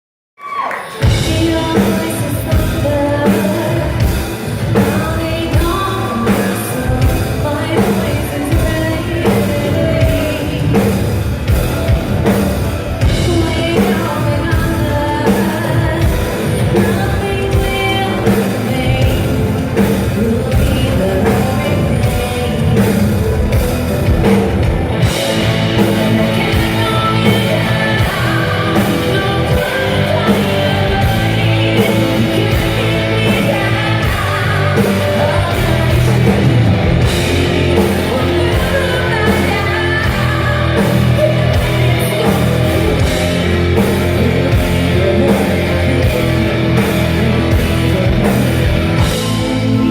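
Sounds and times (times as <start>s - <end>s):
woman singing lead: 0.4s - 49.9s
live metal band playing: 0.8s - 49.9s.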